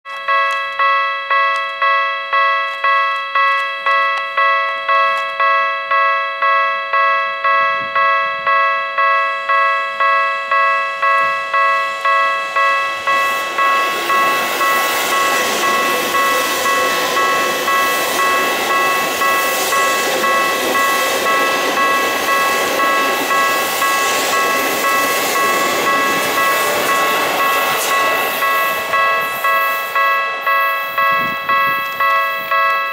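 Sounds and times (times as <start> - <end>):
level crossing bell ringing: 0.1 - 32.9
electric train rumbling past: 3.8 - 32.9.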